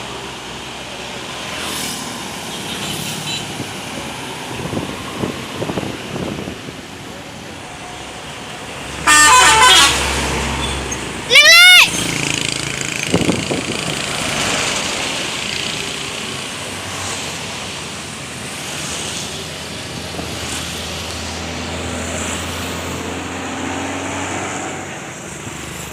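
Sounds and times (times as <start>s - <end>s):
passing traffic: 0.0s - 25.9s.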